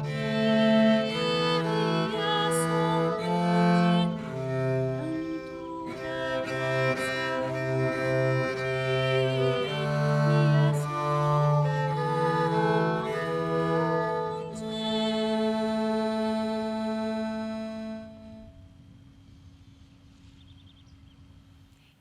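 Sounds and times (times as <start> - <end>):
acoustic ensemble playing: 0.0 - 18.4.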